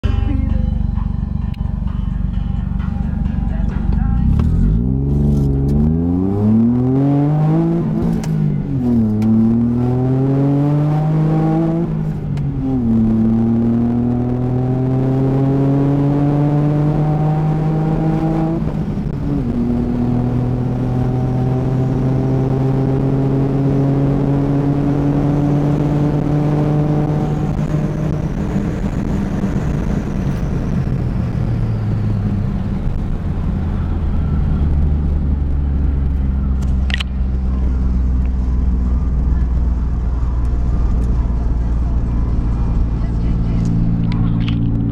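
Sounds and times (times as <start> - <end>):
small car engine accelerating: 0.0 - 44.9.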